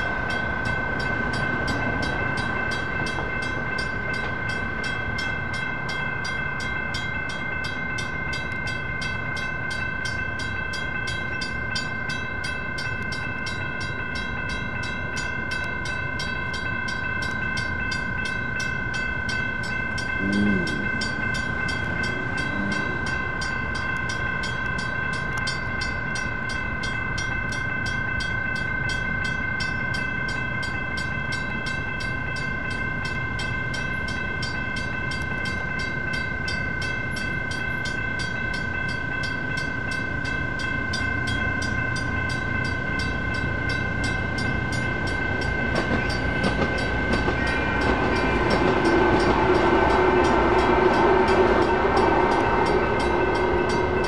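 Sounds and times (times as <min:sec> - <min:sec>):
light rail car rumble and hum: 0:00.0 - 0:54.0
railroad crossing bells ringing: 0:00.0 - 0:54.0.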